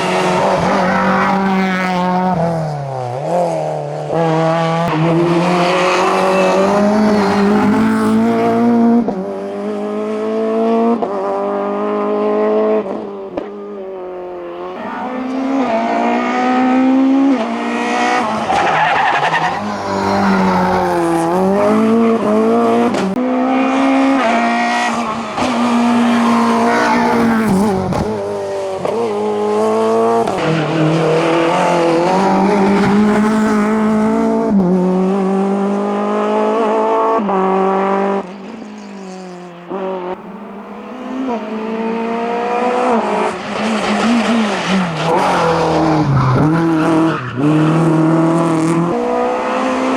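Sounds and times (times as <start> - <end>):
racing car engine revving: 3.1 - 49.9.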